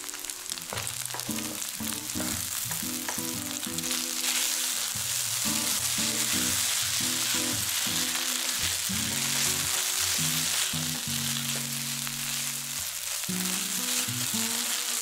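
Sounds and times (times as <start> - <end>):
food sizzling in oil: 0.0 - 15.0
spatula turning food in pan: 0.0 - 15.0.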